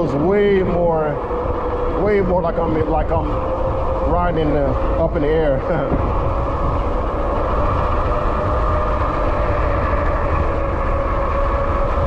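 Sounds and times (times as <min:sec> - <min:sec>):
e-bike tire and motor hum: 0:00.0 - 0:12.0
wind rumbling on microphone: 0:00.0 - 0:12.0.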